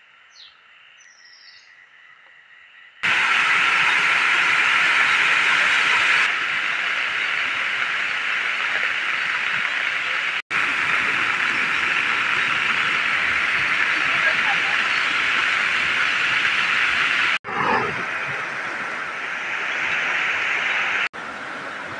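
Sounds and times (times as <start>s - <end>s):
heavy rain hissing: 3.0s - 21.9s.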